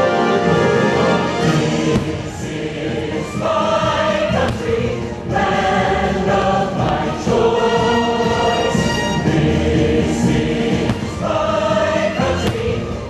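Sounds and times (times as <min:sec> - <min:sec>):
choir singing with orchestra: 0:00.0 - 0:13.0.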